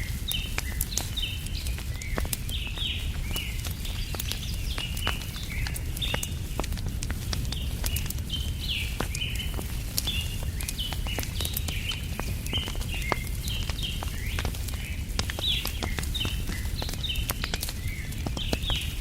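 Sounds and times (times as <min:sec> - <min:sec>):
campfire crackling and popping: 0:00.0 - 0:19.0
small birds chirping: 0:00.0 - 0:19.0.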